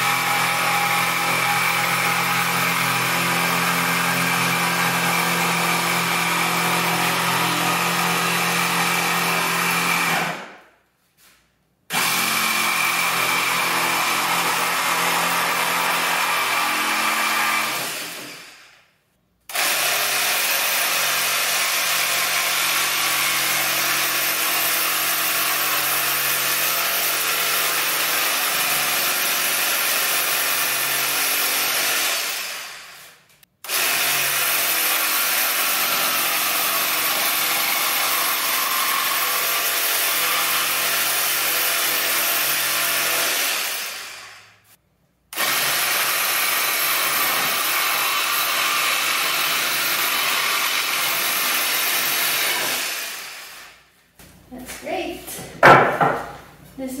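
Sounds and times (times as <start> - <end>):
jigsaw cutting board: 0.0 - 10.7, 11.9 - 18.8, 19.5 - 44.5, 45.3 - 56.4.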